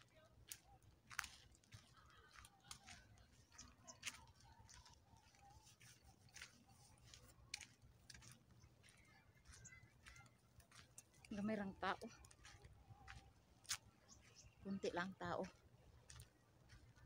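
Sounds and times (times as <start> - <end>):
footsteps on dry dirt path: 0.0 - 17.0.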